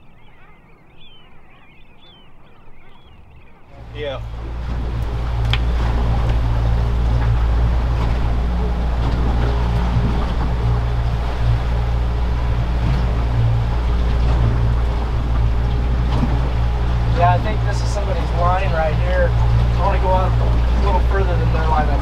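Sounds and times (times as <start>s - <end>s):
outboard motor running: 0.0s - 22.0s
wind and water hiss: 3.7s - 22.0s.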